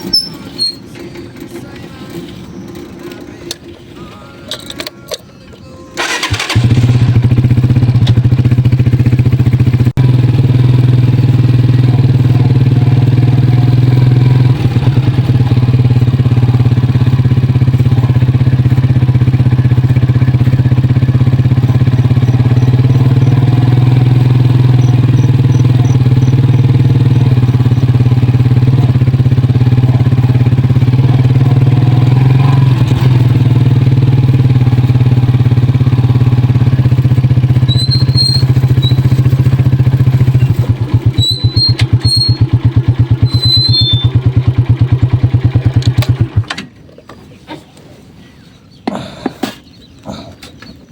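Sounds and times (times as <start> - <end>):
motorcycle engine running: 0.0 - 3.9, 6.0 - 47.3.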